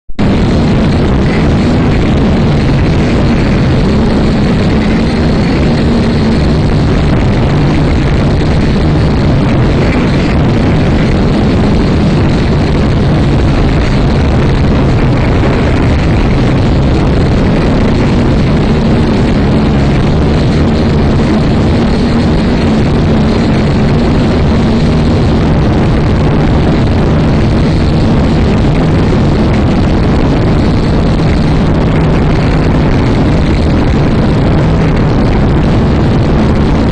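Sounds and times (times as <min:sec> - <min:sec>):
wind over microphone: 0:00.0 - 0:36.9.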